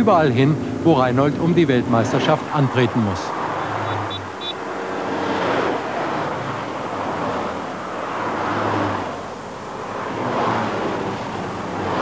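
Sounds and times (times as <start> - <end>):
motorway traffic: 0.0 - 12.0.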